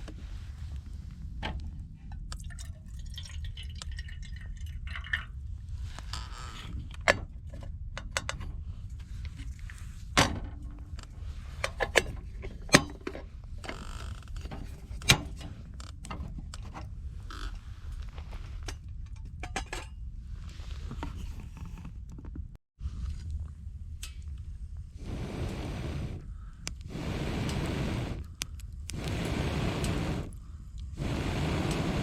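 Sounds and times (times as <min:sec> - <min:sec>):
steady low rumble: 0:00.0 - 0:21.1, 0:22.3 - 0:32.0.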